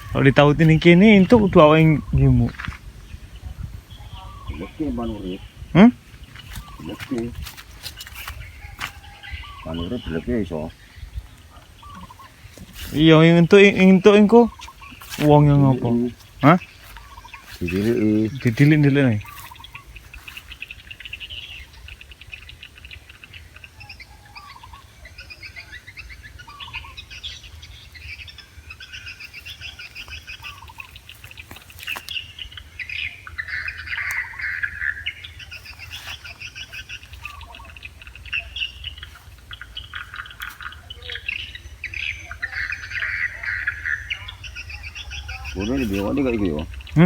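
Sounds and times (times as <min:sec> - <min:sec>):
wild birds chirping: 0:00.0 - 0:47.0.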